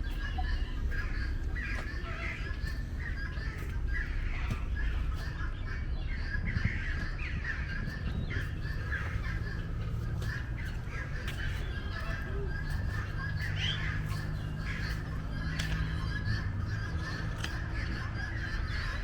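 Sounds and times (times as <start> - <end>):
low rumble: 0.0 - 19.0
many birds calling: 0.0 - 19.0.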